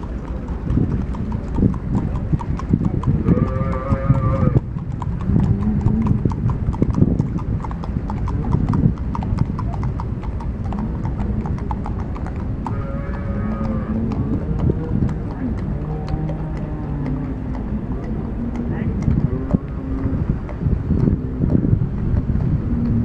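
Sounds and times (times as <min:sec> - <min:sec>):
cattle hooves: 0:00.0 - 0:23.0
drawn-out animal calls: 0:00.0 - 0:23.0
horse hooves clip-clopping on asphalt: 0:00.0 - 0:23.0.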